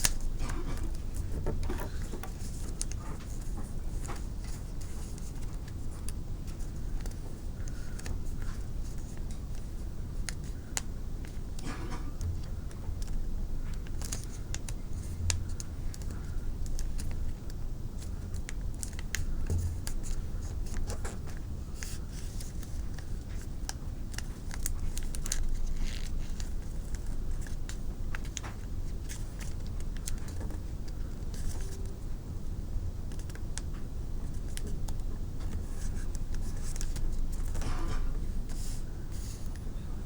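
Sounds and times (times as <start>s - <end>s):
paper folding and crinkling: 0.0s - 32.0s, 33.1s - 39.7s
low steady hum: 0.0s - 40.0s.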